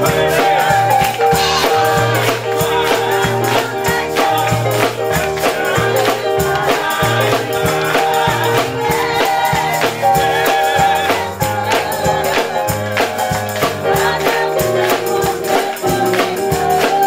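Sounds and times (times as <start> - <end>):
band with bass and beat: 0.0 - 17.0
gospel choir singing: 0.0 - 17.0
hands clapping in time: 0.9 - 10.0, 11.1 - 17.0.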